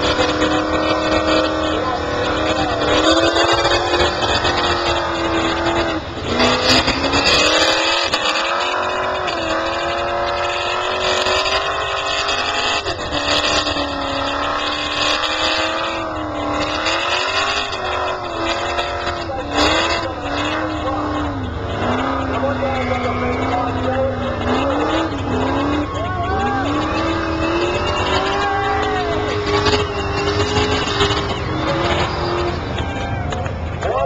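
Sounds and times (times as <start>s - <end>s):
engine at high revs: 0.0s - 34.0s.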